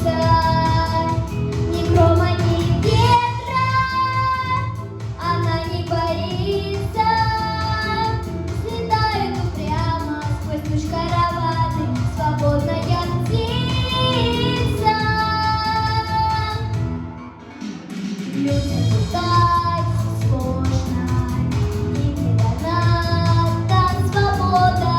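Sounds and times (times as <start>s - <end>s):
girl singing: 0.0s - 16.9s, 18.4s - 24.9s
instrumental backing track: 0.0s - 24.9s.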